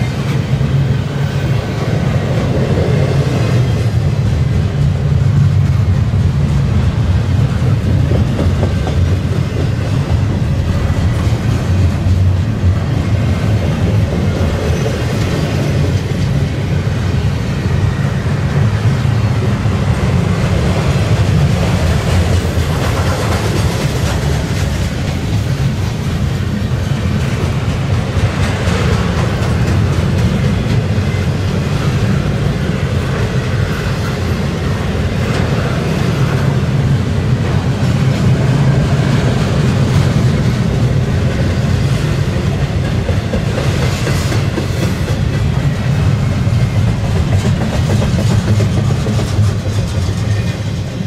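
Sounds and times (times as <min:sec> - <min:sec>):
train wheels clacking on rails: 0:00.0 - 0:51.0.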